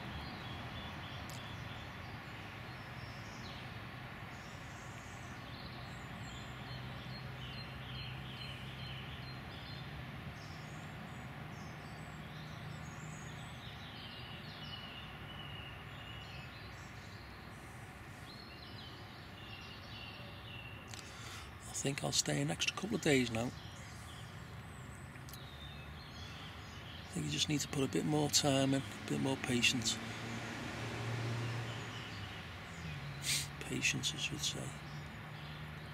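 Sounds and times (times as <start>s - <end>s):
steady background hiss: 0.0s - 35.4s
small birds chirping: 0.0s - 35.9s.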